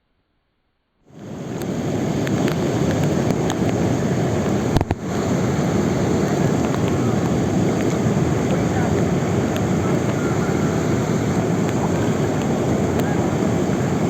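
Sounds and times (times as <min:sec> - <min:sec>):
heavy rain: 0:01.2 - 0:14.0.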